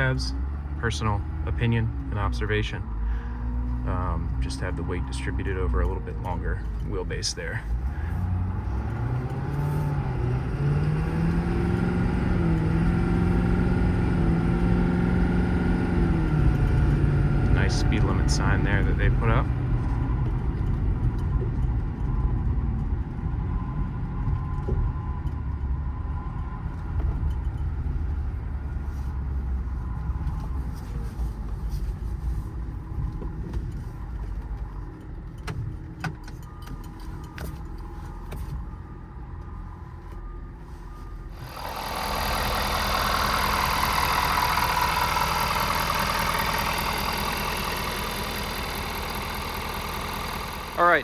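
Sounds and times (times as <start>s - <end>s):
diesel engine rumble in cab: 0.0s - 51.0s.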